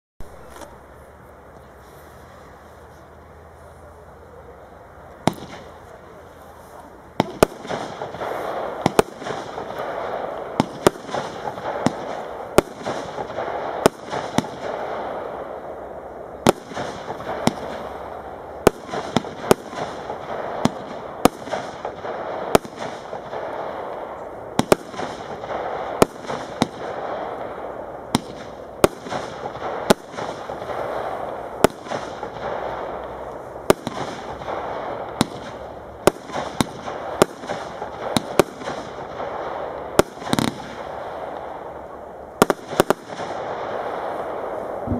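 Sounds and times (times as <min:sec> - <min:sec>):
steady firework noise: 0:00.2 - 0:44.9
firework bangs: 0:05.2 - 0:44.9.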